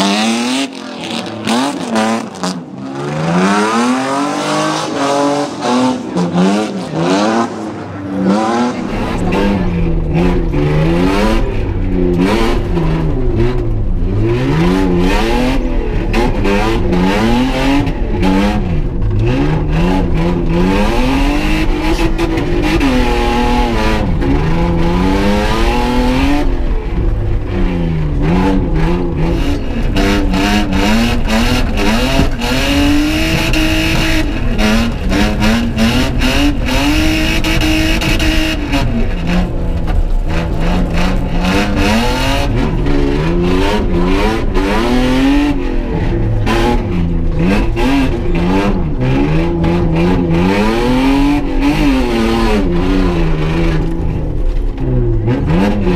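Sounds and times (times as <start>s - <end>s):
car engine revving hard: 0.0s - 55.9s
deep steady rumble: 7.7s - 55.9s.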